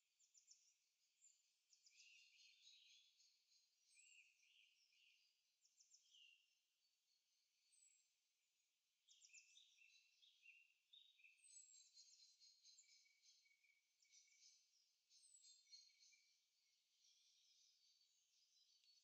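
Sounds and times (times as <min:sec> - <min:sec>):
birds chirping and trilling: 0:00.2 - 0:06.5, 0:09.1 - 0:19.0.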